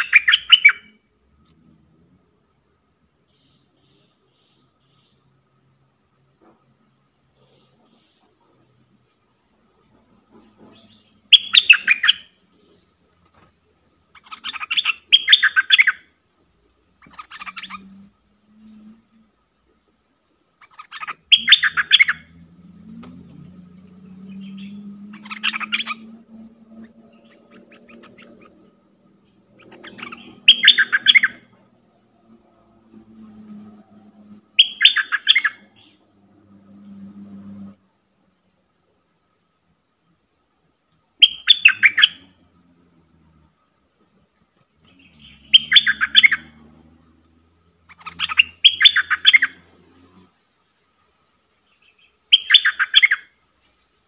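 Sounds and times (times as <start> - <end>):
bird chirping calls: 0.0 - 2.2, 6.2 - 19.4, 20.4 - 37.9, 40.9 - 54.0.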